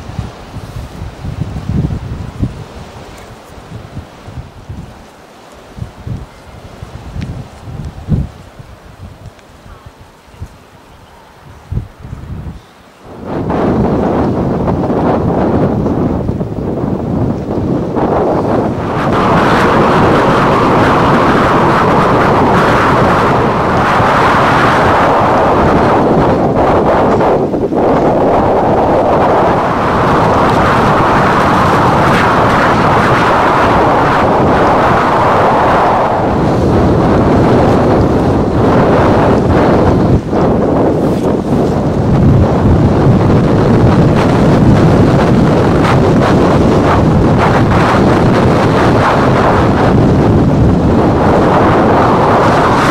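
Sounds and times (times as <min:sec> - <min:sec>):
strong wind on microphone: 0:00.0 - 0:52.9.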